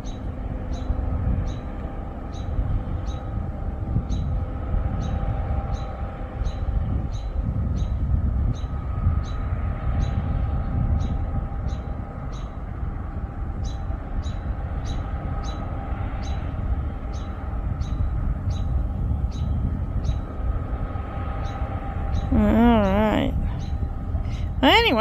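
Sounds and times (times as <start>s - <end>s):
distant farm machinery rumble: 0.0s - 25.0s.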